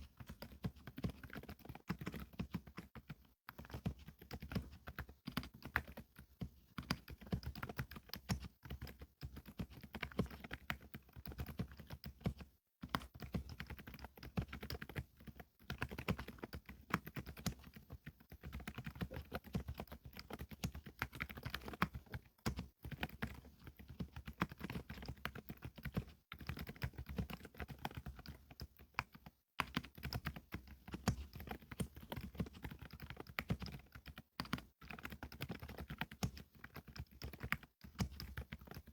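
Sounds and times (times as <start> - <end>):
soft mechanical keyboard typing: 0.0 - 38.9.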